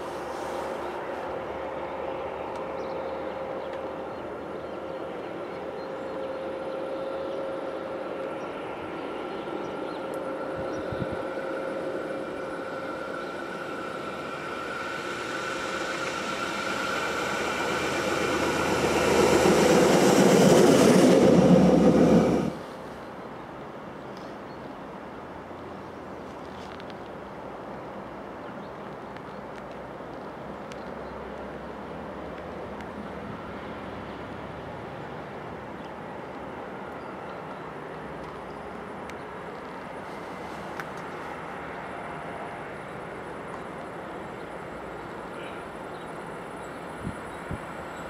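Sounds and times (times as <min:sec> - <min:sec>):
rail vehicle humming and whining: 0:00.0 - 0:48.0.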